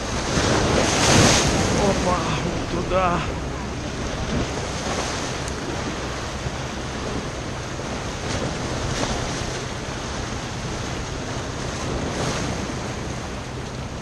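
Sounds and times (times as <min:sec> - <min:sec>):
surf washing over rocks: 0:00.0 - 0:14.0
wind rumbling on microphone: 0:00.0 - 0:14.0.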